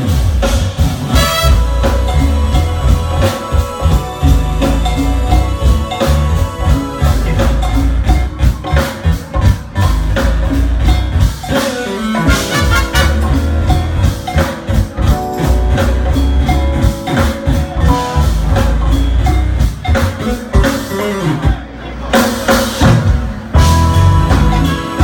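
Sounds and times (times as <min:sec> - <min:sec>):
jazz fusion band playing: 0:00.0 - 0:25.0.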